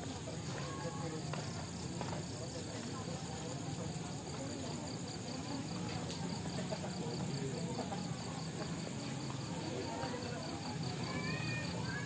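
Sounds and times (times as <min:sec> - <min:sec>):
crowd murmuring and shuffling: 0:00.0 - 0:12.0
insects chirping: 0:00.0 - 0:12.0.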